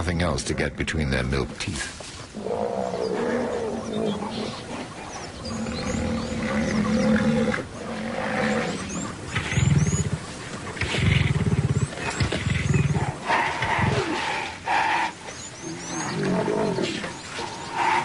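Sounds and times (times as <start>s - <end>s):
lions growling: 2.3s - 18.0s.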